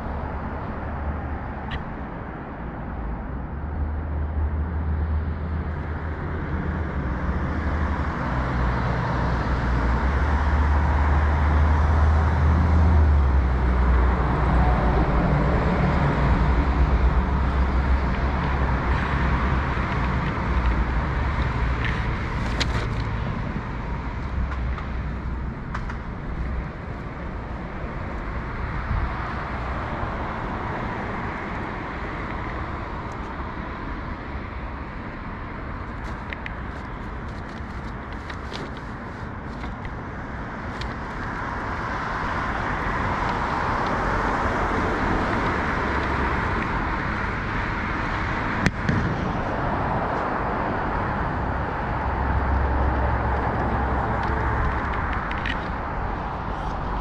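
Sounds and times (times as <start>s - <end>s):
heavy vehicle engine drone: 0.0s - 57.0s
road traffic going by: 0.0s - 57.0s.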